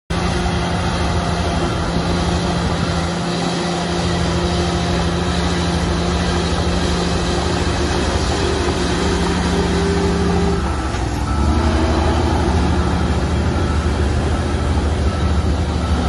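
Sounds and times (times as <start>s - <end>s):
diesel engine running: 0.1s - 16.0s.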